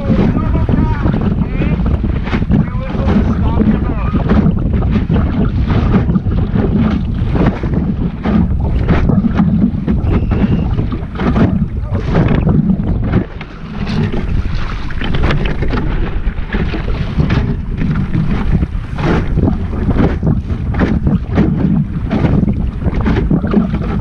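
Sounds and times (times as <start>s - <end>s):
water slapping against hull: 0.0s - 24.0s
wind buffeting microphone: 0.0s - 24.0s.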